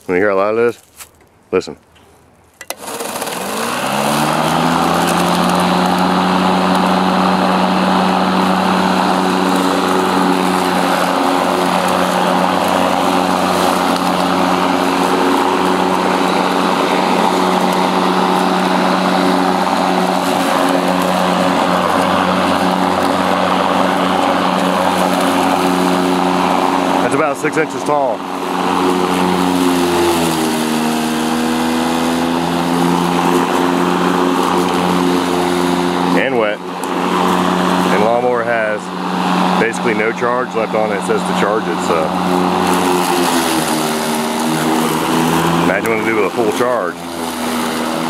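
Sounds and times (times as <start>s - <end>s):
electric lawn mower whirring: 2.5s - 48.0s.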